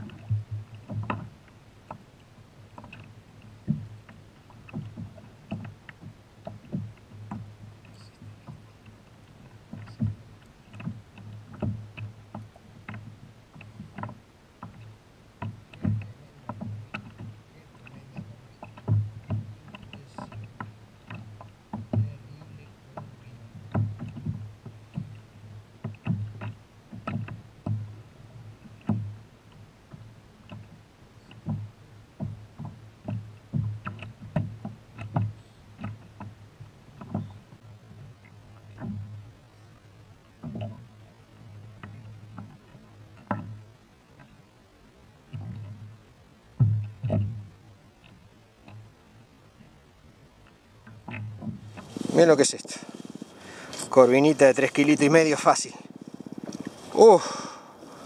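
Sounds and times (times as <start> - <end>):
knocks and thumps on kayak hull: 0.0 - 2.0, 2.8 - 29.2, 29.9 - 39.3, 40.4 - 44.4, 45.3 - 47.5, 50.8 - 58.0
faint water noise: 0.0 - 58.0.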